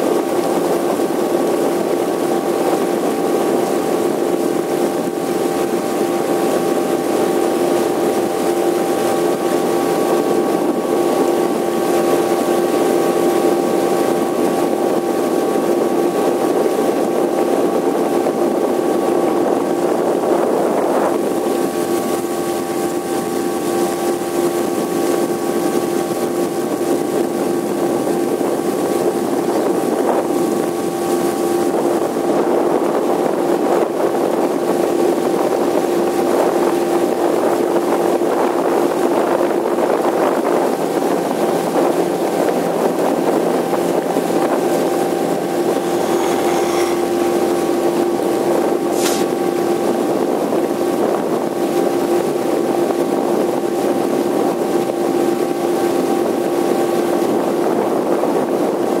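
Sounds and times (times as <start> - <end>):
outboard motor hum: 0.0 - 59.0.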